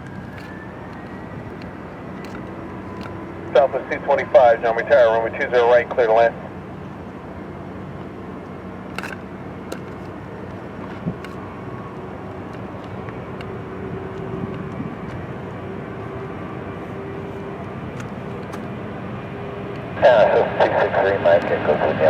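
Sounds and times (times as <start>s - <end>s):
jet airliner engines running: 0.0s - 22.0s.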